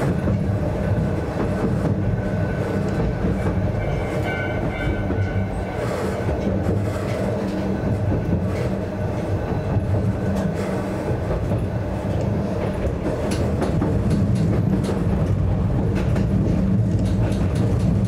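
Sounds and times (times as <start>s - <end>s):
electric railcar humming: 0.0s - 18.0s
wheels clicking on rails: 0.0s - 18.0s.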